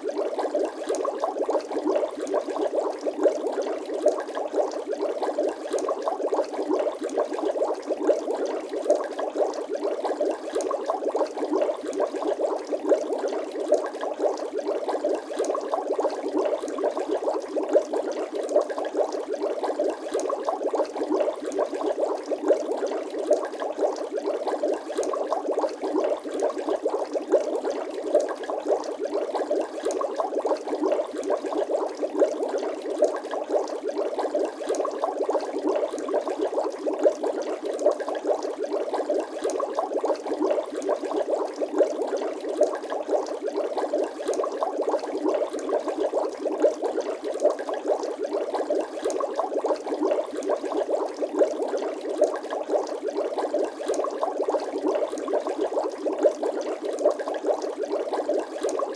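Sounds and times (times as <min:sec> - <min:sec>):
water bubbling: 0:00.0 - 0:58.9.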